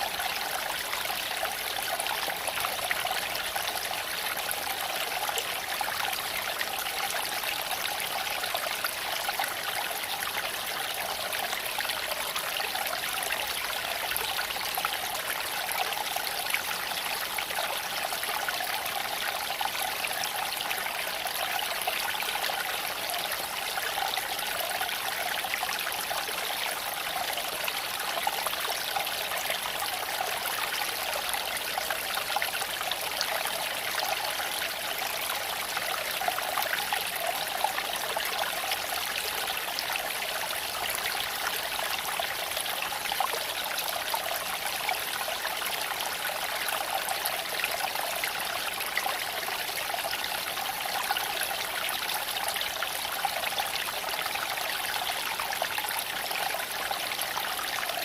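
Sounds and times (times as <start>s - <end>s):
creek flowing over stones: 0.0s - 58.0s.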